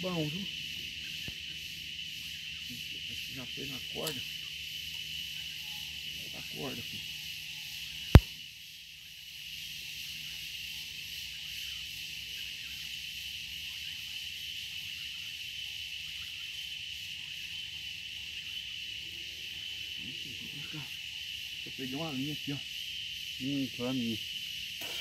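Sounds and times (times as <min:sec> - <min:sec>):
insect chorus drone: 0:00.0 - 0:25.0.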